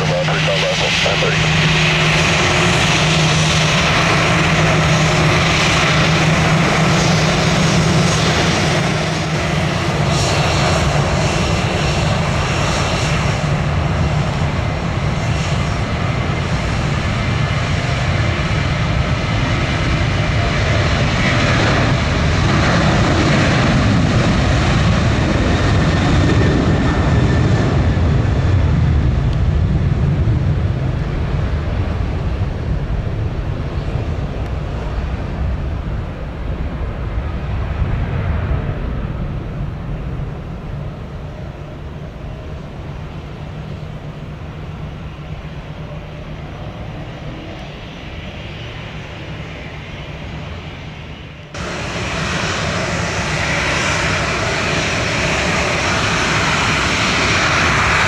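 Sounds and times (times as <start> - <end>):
airliner engines running: 0.0 - 58.0.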